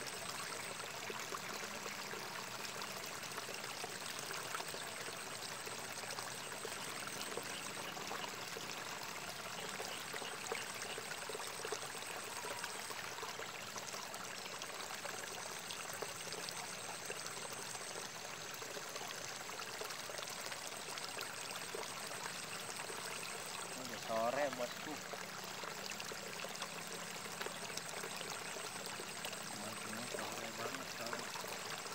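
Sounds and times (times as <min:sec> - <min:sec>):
water trickling in ditch: 0:00.0 - 0:31.9.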